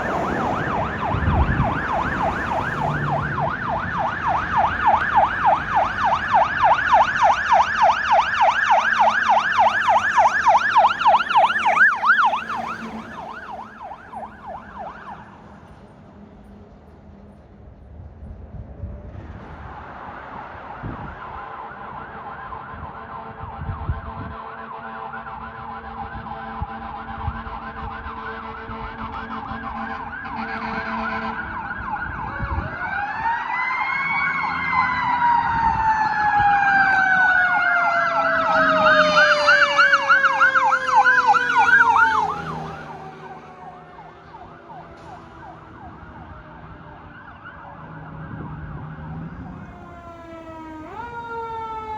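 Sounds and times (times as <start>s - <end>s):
electronic yelp siren: 0.0s - 15.4s, 19.8s - 51.9s
wailing siren: 0.0s - 15.8s, 18.8s - 51.9s.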